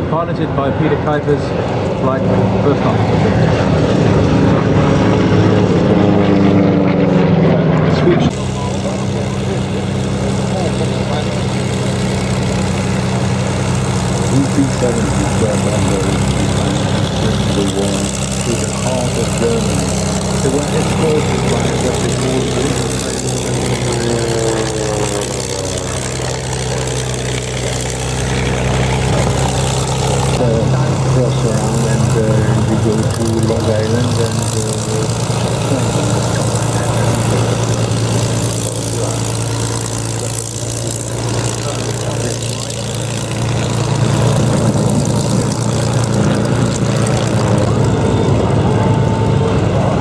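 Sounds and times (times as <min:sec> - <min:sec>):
piston aircraft engines droning: 0:00.0 - 0:50.0
steady low hum: 0:00.0 - 0:50.0.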